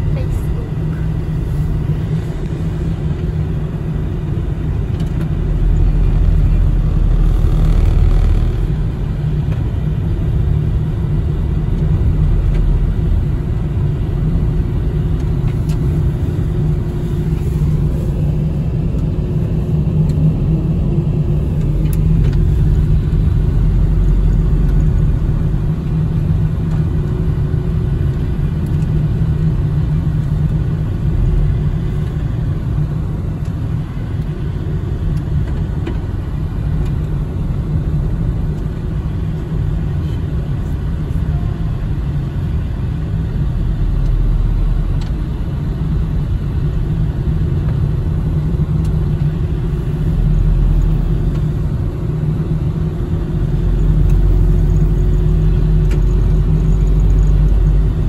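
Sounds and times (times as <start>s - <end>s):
low rumble of tyres and engine: 0.0s - 58.0s.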